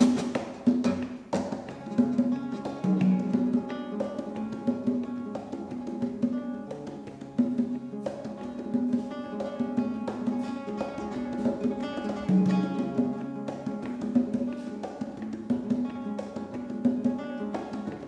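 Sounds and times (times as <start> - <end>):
fingerstyle acoustic guitar: 0.0 - 18.0.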